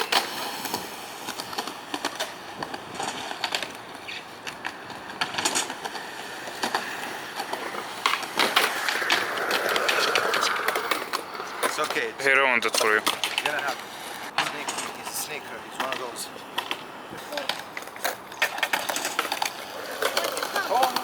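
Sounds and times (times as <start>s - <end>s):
skateboard clacks: 0.0s - 21.0s
skateboard rolling on concrete: 0.0s - 21.0s.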